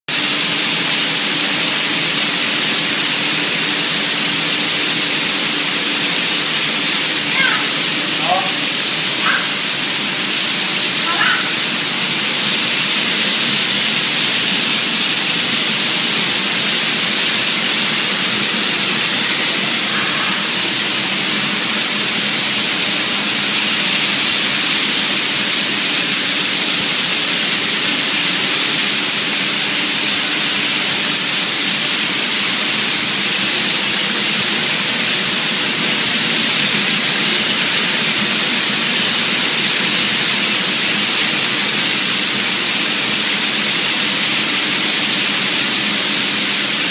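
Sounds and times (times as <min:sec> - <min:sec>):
faint machine hum: 0:00.2 - 0:46.9
spray guns hissing: 0:00.2 - 0:46.9.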